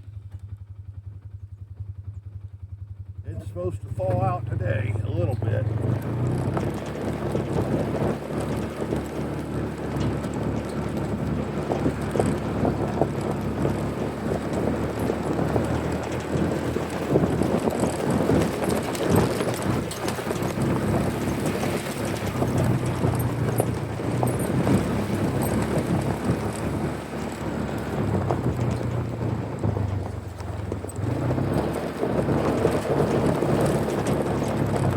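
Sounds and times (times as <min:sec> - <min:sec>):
engine running: 0:00.0 - 0:34.9
wind on microphone: 0:03.3 - 0:34.9
rattling and knocking: 0:04.0 - 0:34.9.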